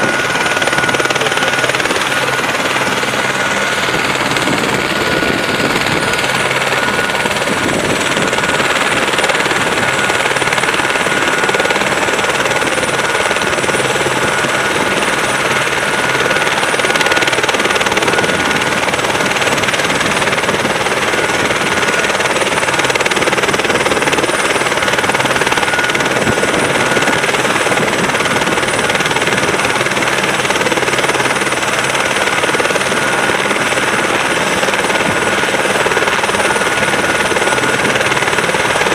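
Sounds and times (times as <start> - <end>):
helicopter rotor and engine noise: 0.0 - 38.9
helicopter turbine whine: 0.0 - 38.9.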